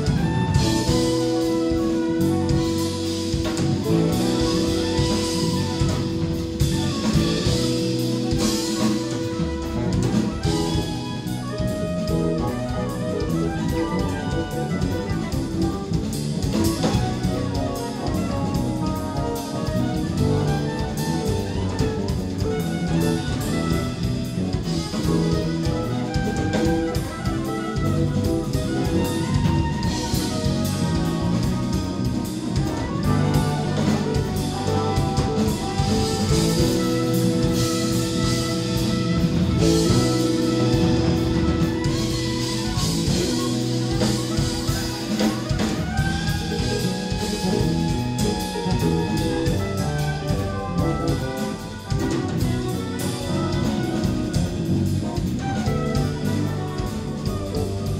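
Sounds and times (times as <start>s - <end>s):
drum kit: 0.0s - 57.9s
electric bass: 0.0s - 57.9s
electric guitar: 0.0s - 57.9s
soprano saxophone: 0.0s - 57.9s.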